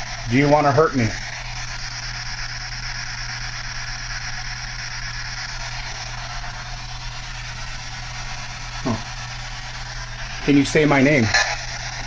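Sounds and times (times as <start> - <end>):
low hum: 0.0 - 12.0
radio static hiss: 0.0 - 12.0.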